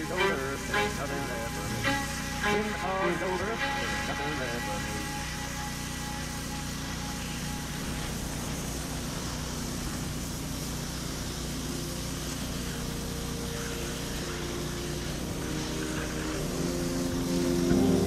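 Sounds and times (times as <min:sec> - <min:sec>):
pressure washer engine drone: 0:00.0 - 0:18.0
water spray hissing: 0:00.0 - 0:18.0.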